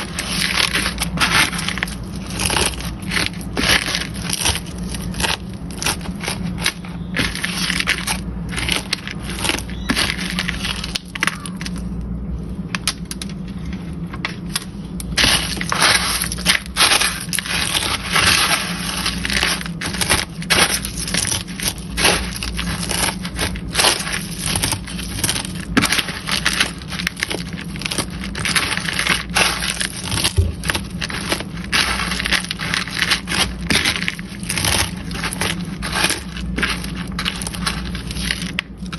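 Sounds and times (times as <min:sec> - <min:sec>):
cornflakes crunching and crackling: 0:00.0 - 0:38.9.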